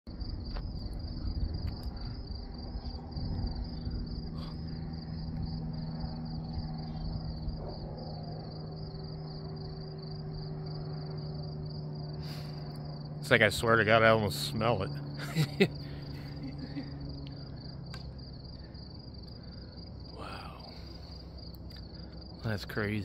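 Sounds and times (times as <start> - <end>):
crickets chirping: 0.1 - 23.0
steady low hum: 0.1 - 23.0.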